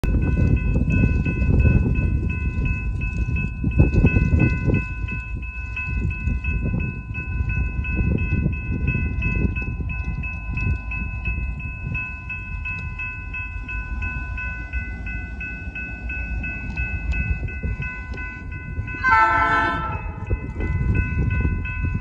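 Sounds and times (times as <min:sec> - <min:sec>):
diesel locomotive rumble: 0:00.0 - 0:22.0
wind buffeting microphone: 0:00.0 - 0:22.0.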